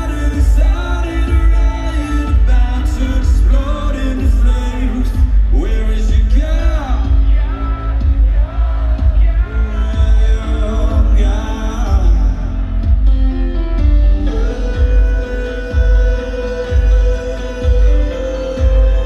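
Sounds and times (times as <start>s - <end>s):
man singing: 0.0s - 13.1s, 14.0s - 19.0s
live rock band music: 0.0s - 19.0s.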